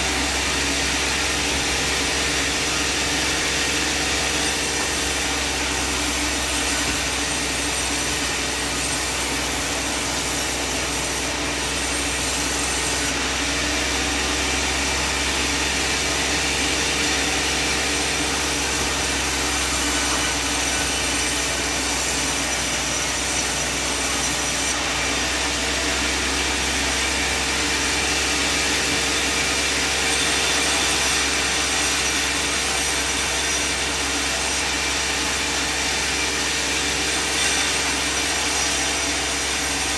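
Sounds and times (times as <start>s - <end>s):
motor drone: 0.0s - 39.9s
saw blade cutting timber: 0.0s - 39.9s.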